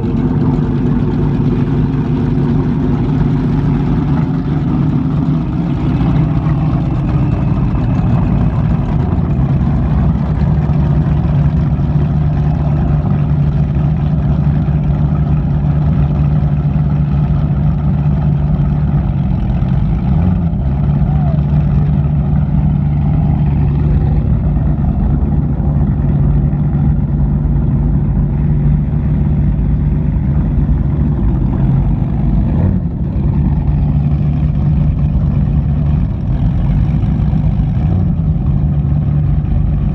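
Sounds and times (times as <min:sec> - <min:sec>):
boat engines idling: 0:00.0 - 0:39.9.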